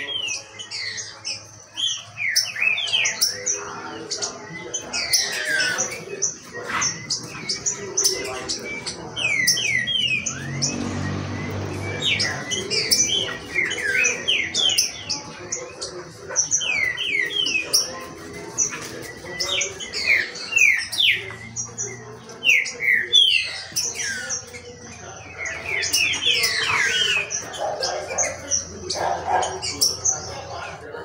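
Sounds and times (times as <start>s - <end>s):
birds singing whistled notes: 0.0s - 30.9s.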